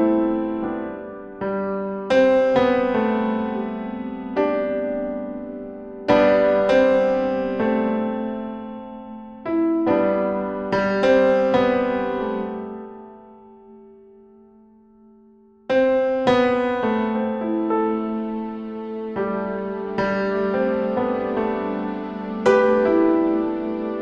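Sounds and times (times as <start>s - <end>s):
slow piano chords: 0.0s - 24.0s.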